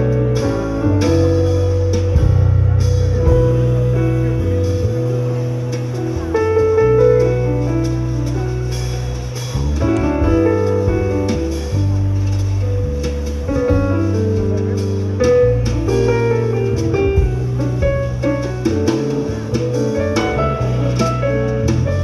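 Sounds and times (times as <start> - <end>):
bass guitar line: 0.0 - 22.0
drums: 0.0 - 22.0
keyboard: 0.0 - 22.0.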